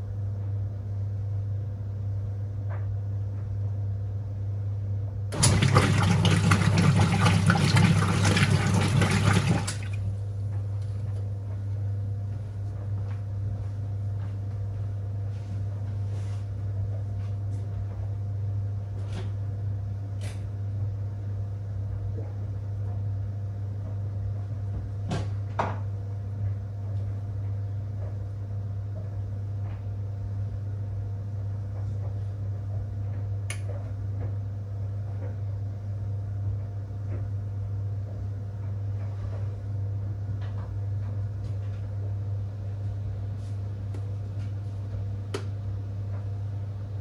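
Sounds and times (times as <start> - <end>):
washing machine motor hum: 5.3 - 33.4, 36.6 - 47.0.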